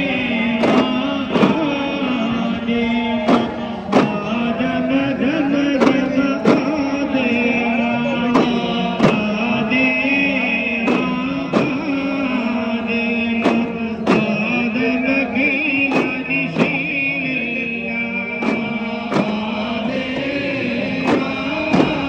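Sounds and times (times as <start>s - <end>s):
chant-like singing over held tones: 0.0s - 22.0s
sharp percussion strikes: 0.0s - 22.0s.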